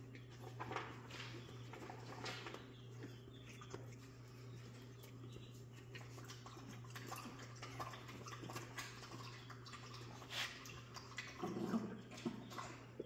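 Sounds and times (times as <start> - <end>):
paws scratching on floor: 0.0 - 11.8
steady low hum: 0.0 - 13.0.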